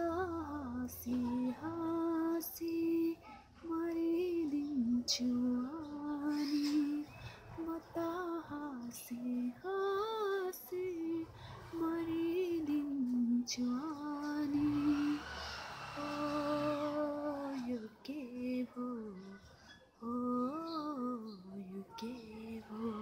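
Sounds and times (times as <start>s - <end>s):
woman singing slow song: 0.0s - 23.0s.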